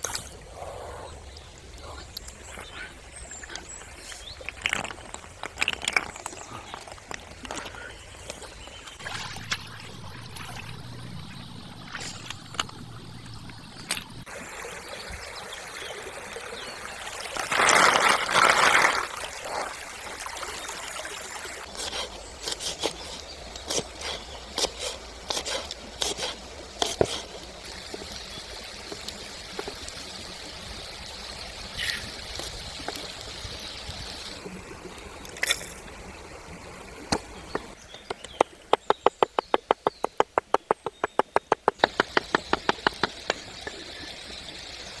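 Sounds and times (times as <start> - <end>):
rush of splashing water: 0.0 - 45.0
stream water trickling: 0.0 - 45.0.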